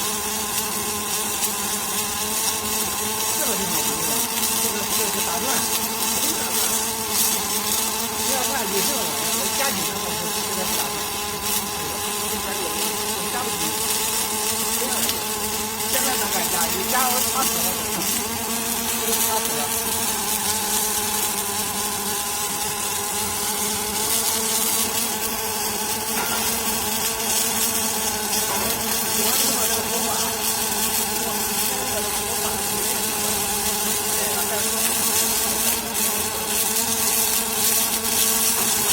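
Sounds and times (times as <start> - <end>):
welding machine buzzing hum: 0.0 - 38.9.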